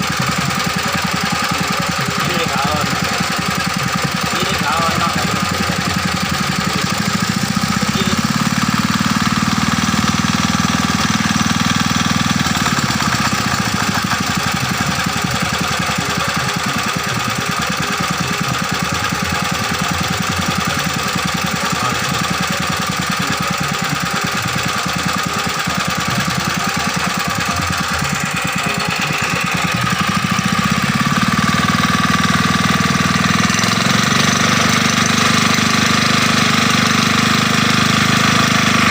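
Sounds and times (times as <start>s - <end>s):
small diesel engine knocking: 0.0s - 38.9s.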